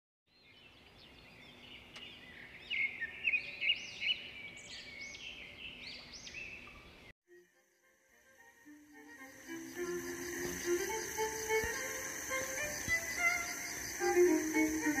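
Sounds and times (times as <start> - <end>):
songbirds chirping and whistling: 0.3 - 7.1, 9.5 - 15.0.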